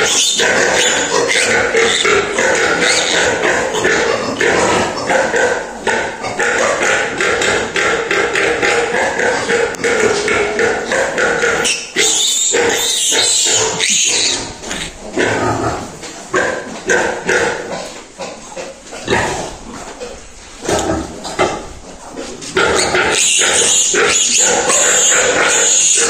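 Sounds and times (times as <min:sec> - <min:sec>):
pigs calling: 0:00.0 - 0:26.0.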